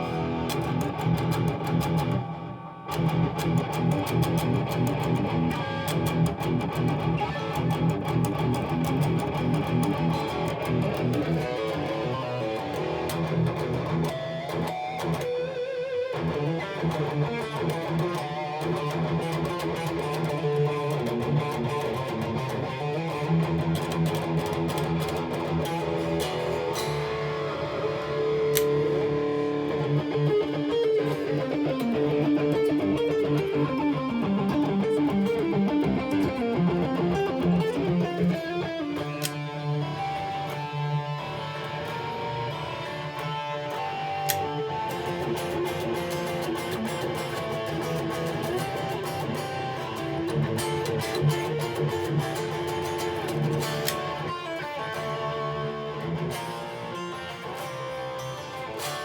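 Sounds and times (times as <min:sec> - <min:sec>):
overdriven electric guitar: 0:00.0 - 0:59.0.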